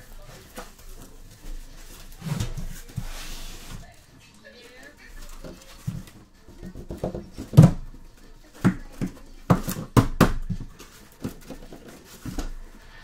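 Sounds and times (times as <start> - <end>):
cardboard rustling: 0.0 - 13.0.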